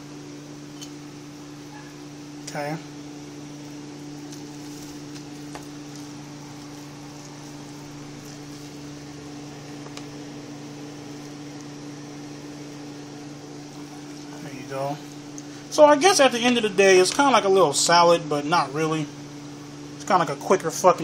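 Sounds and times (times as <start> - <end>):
appliance humming: 0.0 - 21.0.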